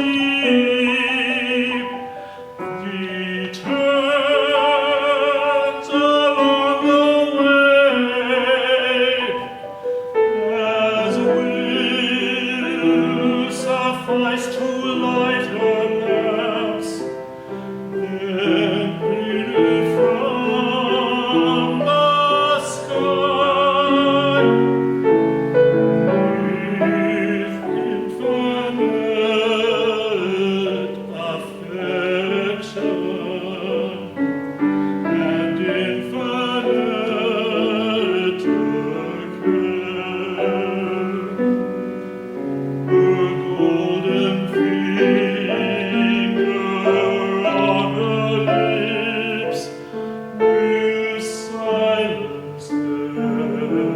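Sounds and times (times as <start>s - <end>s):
classical solo voice singing: 0.0s - 53.9s
piano: 0.0s - 53.9s.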